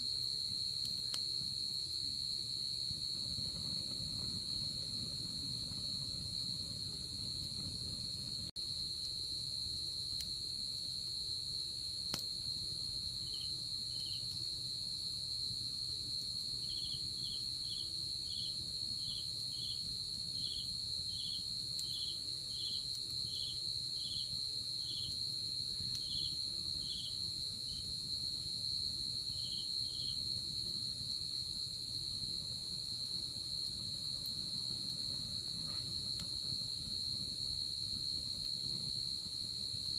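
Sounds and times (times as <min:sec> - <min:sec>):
insect high steady trill: 0:00.0 - 0:39.9.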